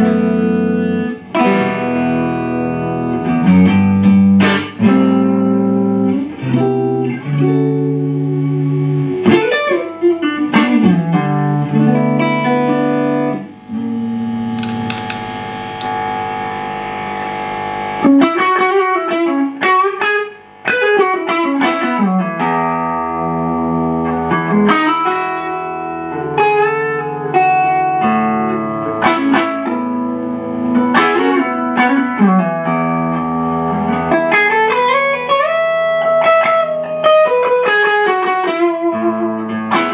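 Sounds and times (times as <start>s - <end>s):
electric guitar lead line: 0.0s - 39.9s.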